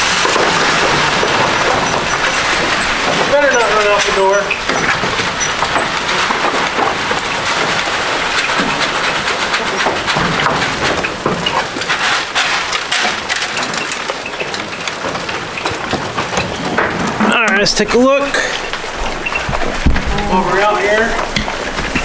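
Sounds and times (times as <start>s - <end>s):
feed rattling: 0.0s - 22.0s
goats crunching feed: 0.0s - 22.0s
knocks against wooden rails: 0.0s - 22.0s.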